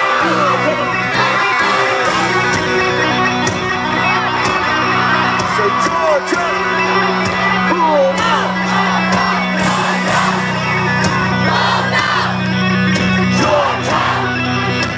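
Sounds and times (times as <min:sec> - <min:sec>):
crowd whooping and shouting: 0:00.0 - 0:14.9
live music over a pa: 0:00.0 - 0:14.9.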